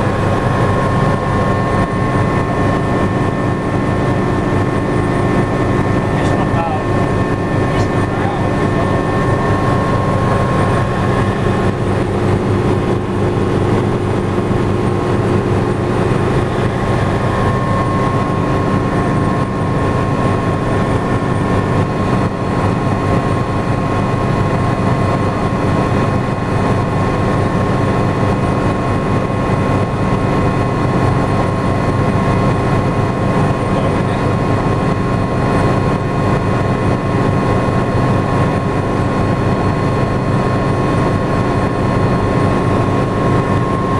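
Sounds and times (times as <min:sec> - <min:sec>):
helicopter engine and rotor drone: 0:00.0 - 0:43.9
high whine: 0:00.0 - 0:43.9.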